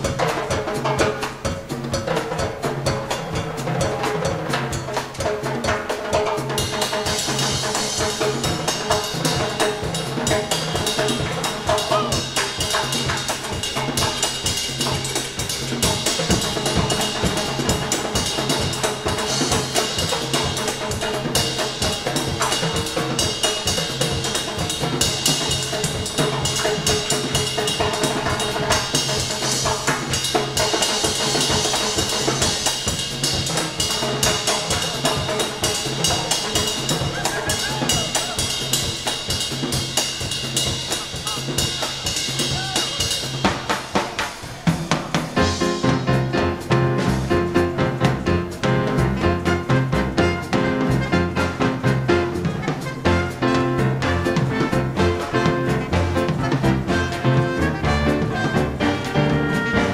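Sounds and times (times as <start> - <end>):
drum kit and percussion beat: 0.0 - 59.9
latin dance band playing: 0.0 - 59.9.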